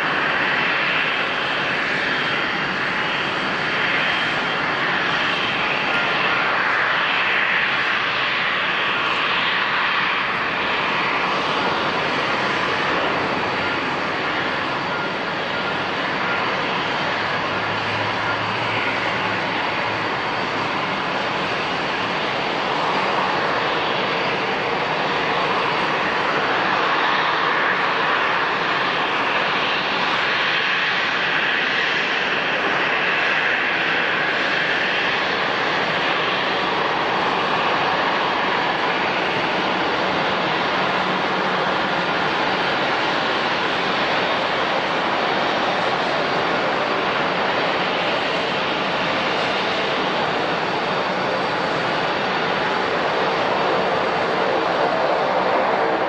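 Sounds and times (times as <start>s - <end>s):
aircraft engines rushing: 0.0s - 56.0s.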